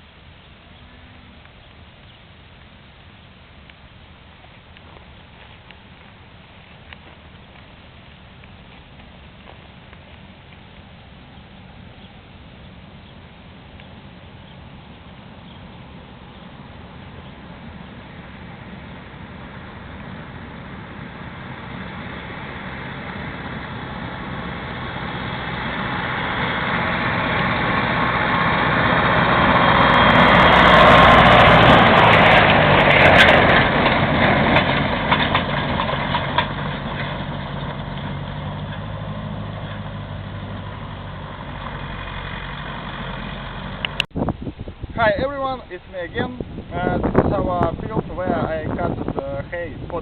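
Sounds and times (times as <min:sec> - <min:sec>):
farm machine engine driving past: 0:00.0 - 0:50.0.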